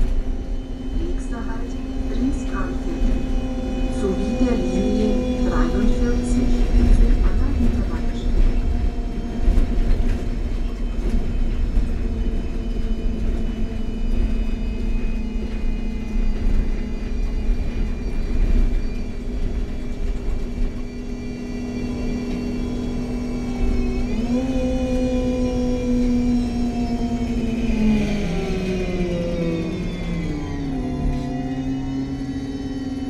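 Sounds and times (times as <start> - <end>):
bus engine whine and rumble: 0.0 - 33.0.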